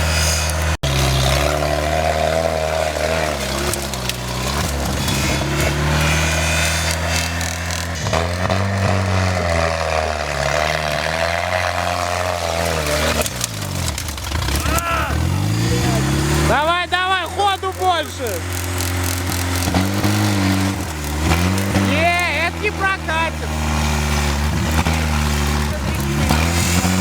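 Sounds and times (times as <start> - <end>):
vehicle engine running under load: 0.0 - 27.0.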